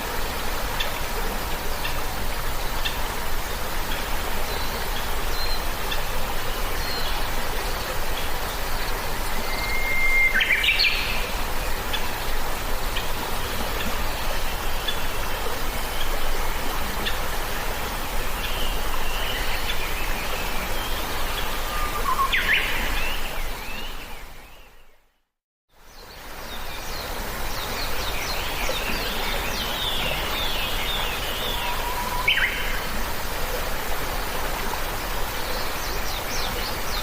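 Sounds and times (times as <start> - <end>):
steady outdoor hiss: 0.0 - 37.0.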